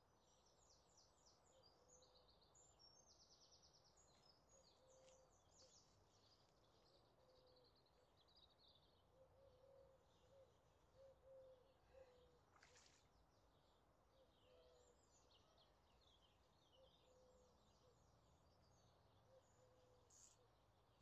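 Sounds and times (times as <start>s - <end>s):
small birds chirping: 0.0s - 11.6s, 12.6s - 21.0s.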